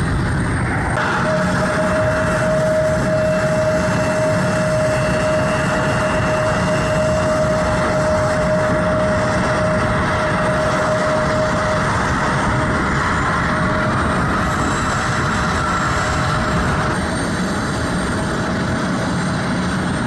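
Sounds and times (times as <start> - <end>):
high engine whine: 0.0 - 20.0
jet engines roaring: 0.0 - 20.0.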